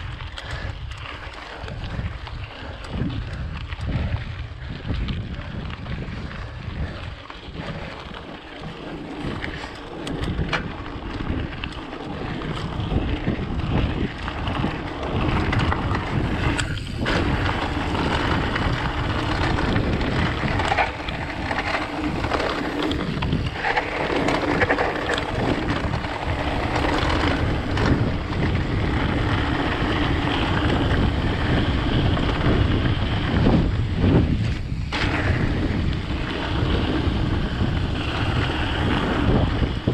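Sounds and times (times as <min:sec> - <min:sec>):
tyres on dirt trail: 0:00.0 - 0:39.9
wind buffeting microphone: 0:00.0 - 0:39.9
bike knocks and rattles: 0:02.9 - 0:39.9.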